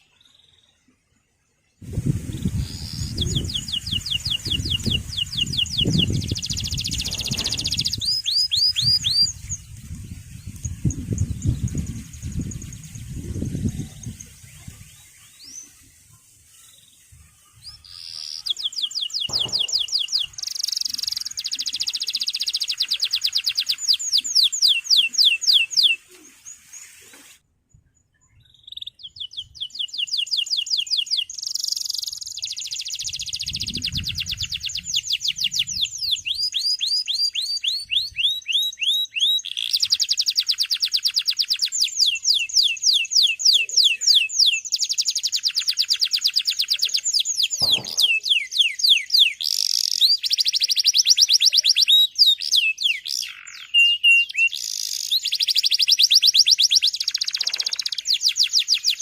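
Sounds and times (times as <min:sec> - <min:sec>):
canary singing trills: 0:01.9 - 0:27.0, 0:28.2 - 0:59.0.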